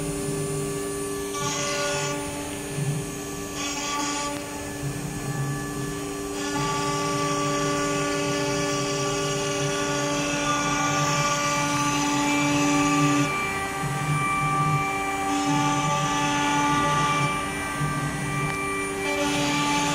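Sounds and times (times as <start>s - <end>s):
router spindle high whine: 0.0s - 19.9s.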